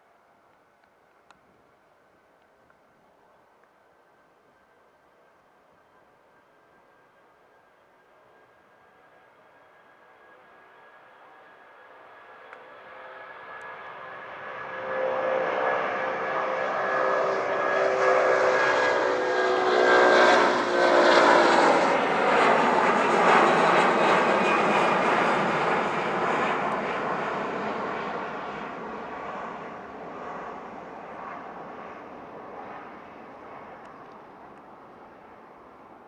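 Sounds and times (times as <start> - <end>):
jet engines passing with whine: 4.0 - 36.0.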